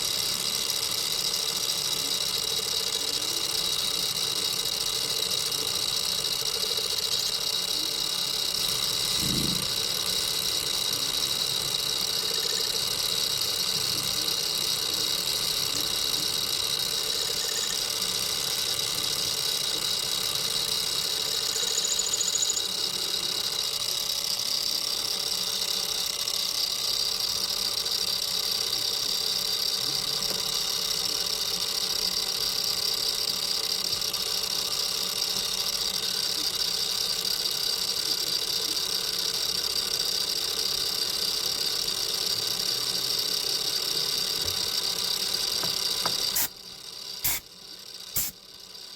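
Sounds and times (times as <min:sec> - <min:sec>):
machine tool high-pitched whine: 0:00.0 - 0:48.9.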